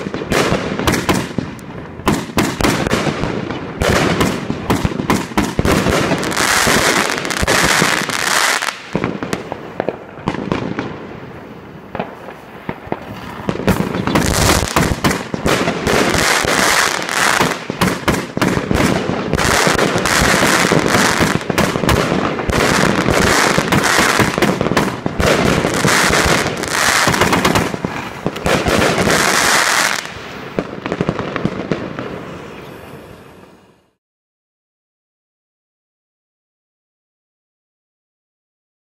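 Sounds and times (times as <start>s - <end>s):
dense firework crackling: 0.0s - 33.6s
firework bursts: 0.0s - 34.0s.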